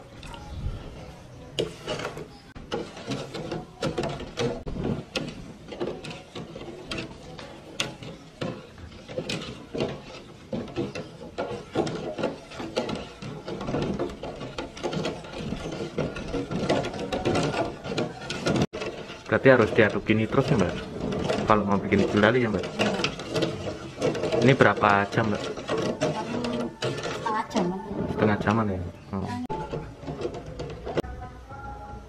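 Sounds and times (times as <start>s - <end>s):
wooden paddle scraping metal pot: 0.0s - 31.1s.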